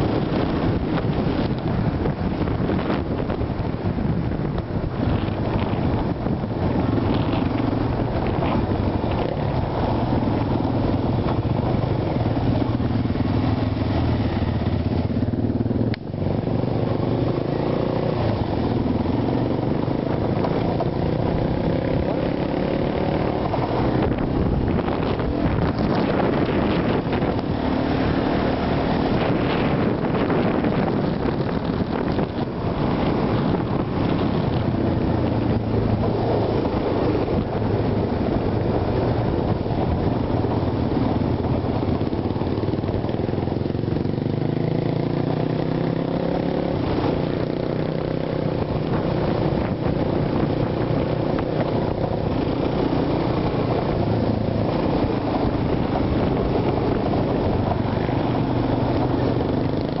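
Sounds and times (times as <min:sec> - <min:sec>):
atv engine revving: 0:00.0 - 1:00.0.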